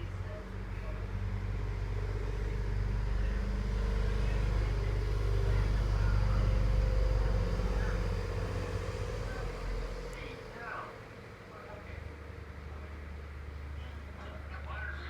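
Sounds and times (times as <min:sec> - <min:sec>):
low mechanical rumble with hum: 0:00.0 - 0:15.0.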